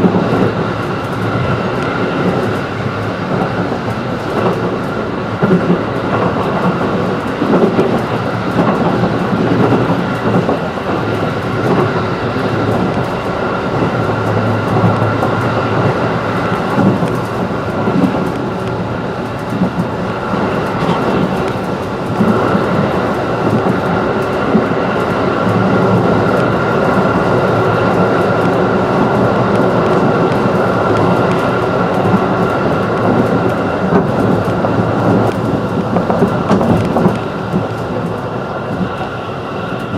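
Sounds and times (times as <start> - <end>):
train wheels rumbling on rail: 0.0 - 39.9
wheels clicking over track: 0.0 - 39.9.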